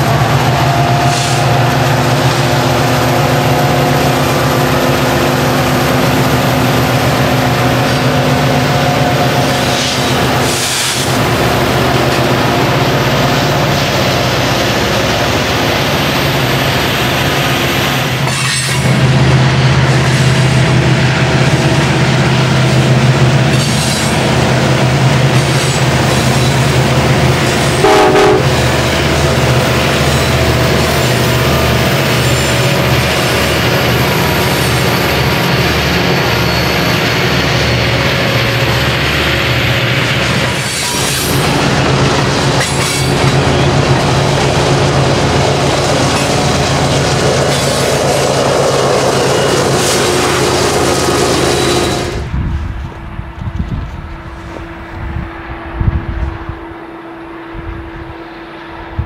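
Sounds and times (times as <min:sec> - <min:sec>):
diesel locomotive engines: 0:00.0 - 0:59.0
train cars rumbling on rails: 0:00.0 - 0:59.0.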